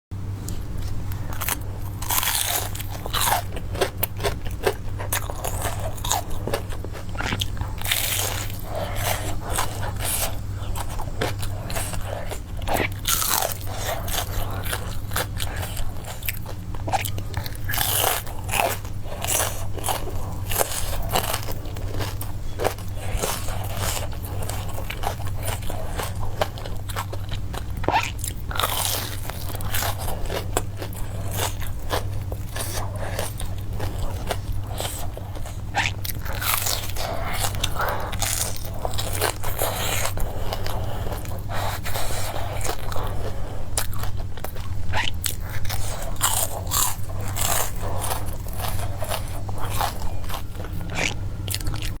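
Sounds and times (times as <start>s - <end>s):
steady low hum: 0.1s - 52.0s
person crunching food: 0.4s - 52.0s.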